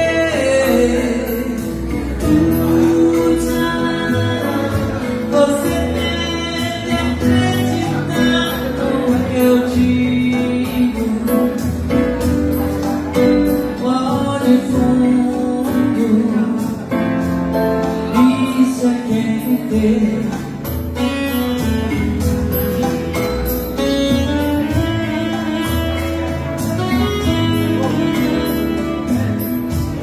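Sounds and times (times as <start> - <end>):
guitar accompaniment: 0.0 - 30.0
person singing pop song: 0.0 - 30.0.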